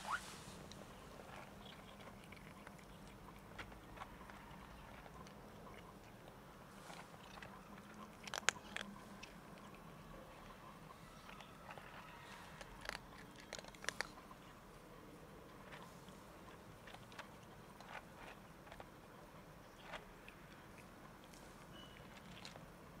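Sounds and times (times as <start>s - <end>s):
cat crunching dry kibble: 0.6s - 22.8s.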